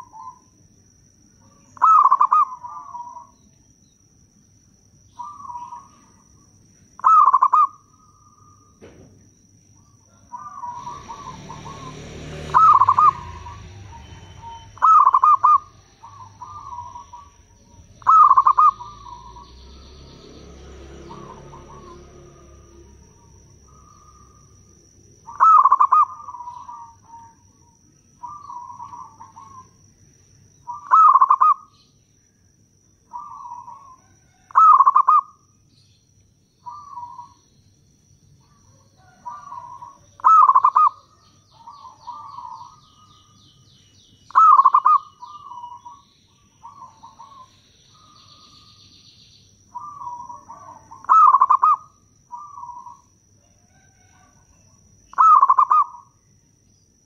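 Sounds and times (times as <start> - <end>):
dove cooing: 0.0 - 0.5, 1.4 - 3.4, 5.1 - 9.0, 9.8 - 20.3, 20.9 - 29.9, 30.6 - 31.7, 33.1 - 35.4, 36.6 - 37.4, 38.4 - 43.4, 44.3 - 48.8, 49.7 - 56.2.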